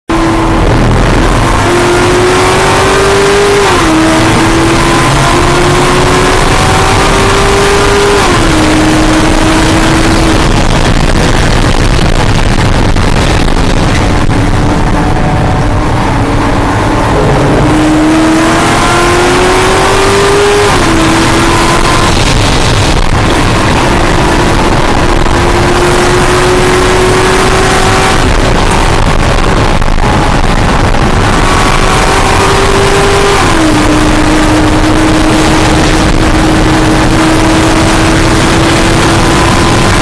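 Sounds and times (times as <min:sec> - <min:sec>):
race car engine at full throttle: 0:00.0 - 0:40.0
road and wind noise: 0:00.0 - 0:40.0.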